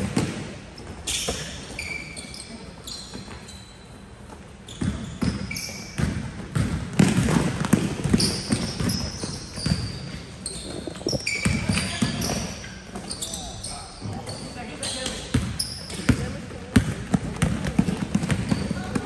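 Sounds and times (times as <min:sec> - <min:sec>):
basketballs bouncing on gym floor: 0:00.0 - 0:01.9, 0:04.3 - 0:19.0
sneakers squeaking: 0:00.0 - 0:19.0.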